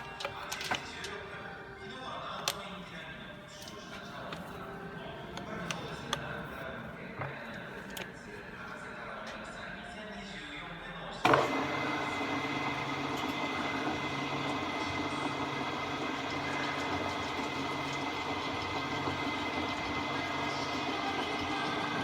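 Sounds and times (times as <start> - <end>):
milling machine humming: 0.0 - 9.4, 11.2 - 22.0
thin steady whine: 0.0 - 22.0.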